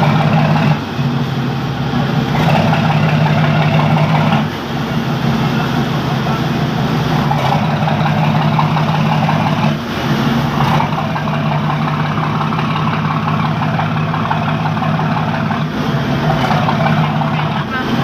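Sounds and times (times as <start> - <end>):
ship diesel engine humming: 0.0 - 18.0.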